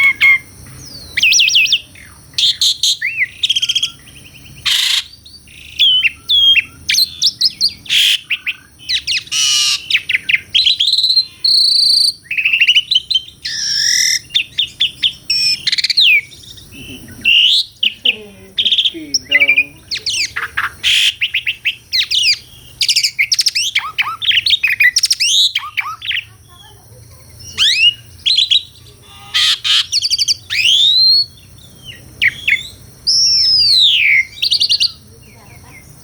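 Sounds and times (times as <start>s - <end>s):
starling singing: 0.0s - 36.0s.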